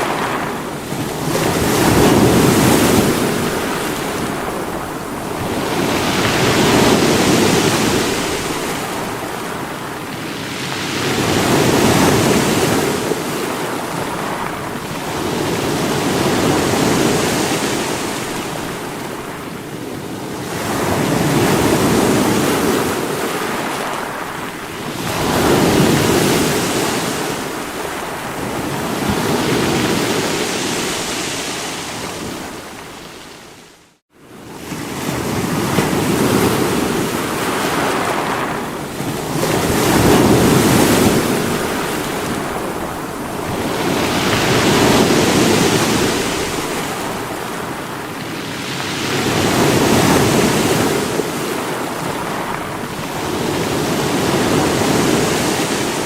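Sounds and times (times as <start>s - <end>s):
sea waves breaking on rocks: 0.0s - 33.3s, 34.6s - 56.0s.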